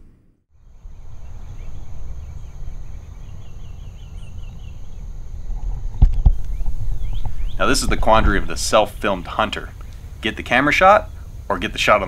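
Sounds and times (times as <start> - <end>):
low rumbling microphone noise: 0.0 - 12.0
bird chirping: 0.6 - 11.4.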